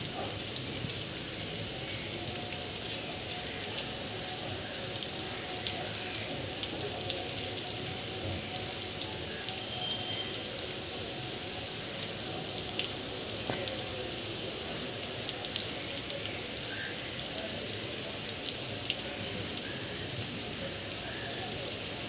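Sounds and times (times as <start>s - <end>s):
close raindrops striking: 0.0s - 22.0s
steady rain hissing: 0.0s - 22.0s.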